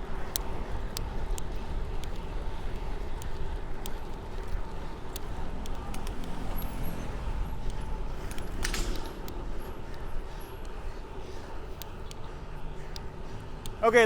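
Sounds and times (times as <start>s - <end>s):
road traffic noise: 0.0s - 14.0s
faint clicks: 0.2s - 6.8s, 7.6s - 13.8s.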